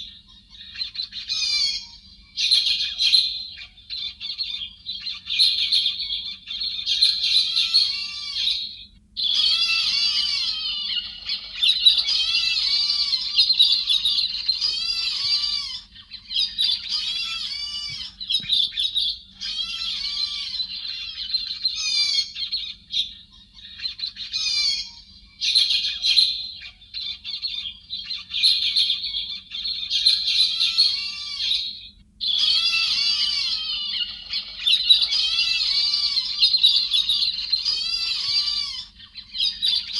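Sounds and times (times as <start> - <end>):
birds chattering calls: 0.0 - 39.9.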